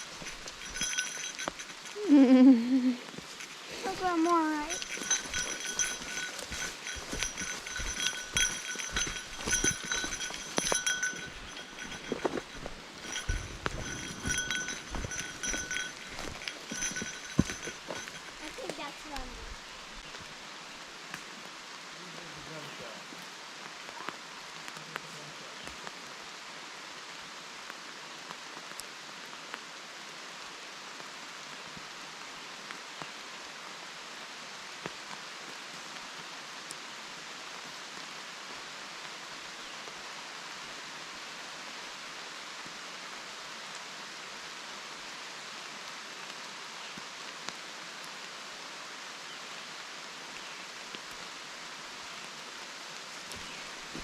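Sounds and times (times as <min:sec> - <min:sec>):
rain falling on forest: 0:00.0 - 0:13.9, 0:14.9 - 0:54.0.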